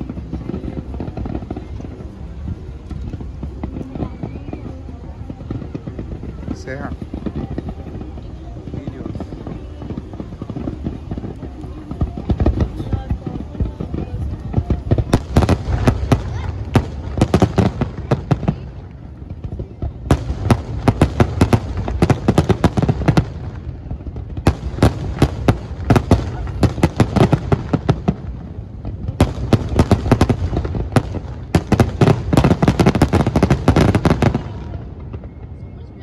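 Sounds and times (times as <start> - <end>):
fireworks cracking and banging: 0.0 - 36.0.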